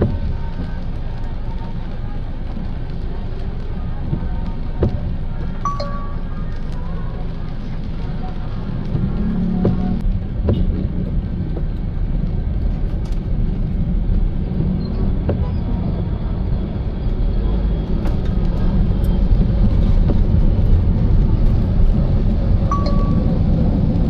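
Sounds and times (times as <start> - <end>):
car tyre and road noise: 0.0 - 24.0.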